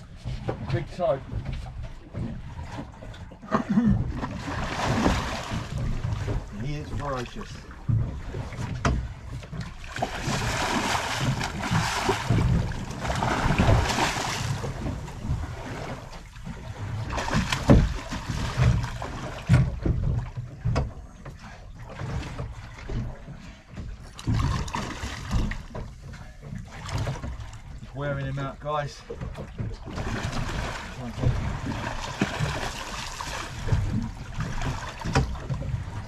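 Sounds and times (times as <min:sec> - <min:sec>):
sharp knocks against boat: 0:00.0 - 0:27.9, 0:28.7 - 0:36.0
water splashing against boat: 0:00.0 - 0:36.0.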